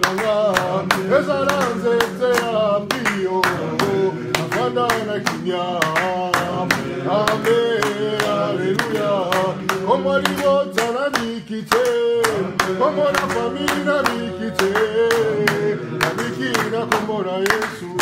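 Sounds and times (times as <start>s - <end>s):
group singing a hymn: 0.0s - 18.0s
hand clapping in time: 0.0s - 18.0s.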